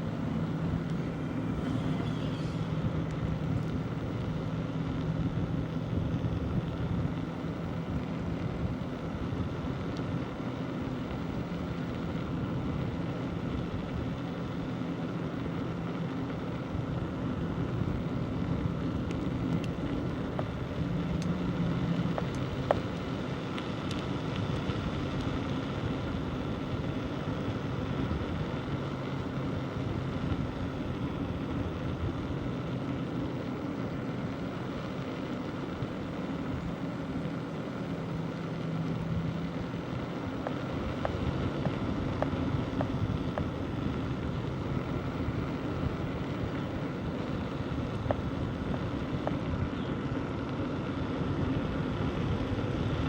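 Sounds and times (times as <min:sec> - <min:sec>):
bicycle rolling on road: 0:00.0 - 0:53.0
low steady hum: 0:00.0 - 0:53.0
wind: 0:00.0 - 0:53.0.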